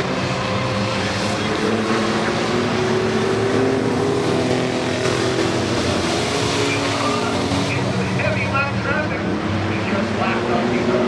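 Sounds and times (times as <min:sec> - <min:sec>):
racing truck engines droning: 0:00.0 - 0:11.0.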